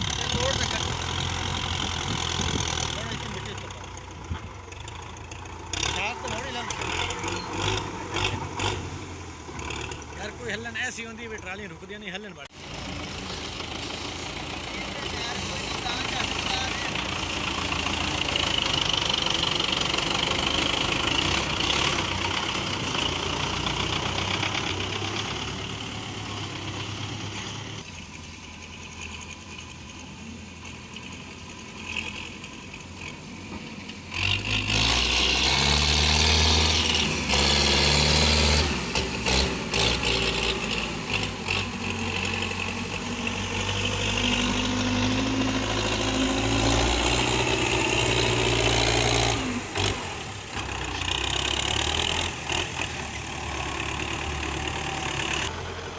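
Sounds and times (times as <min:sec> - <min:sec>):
tractor engine revving: 0:00.0 - 0:55.9.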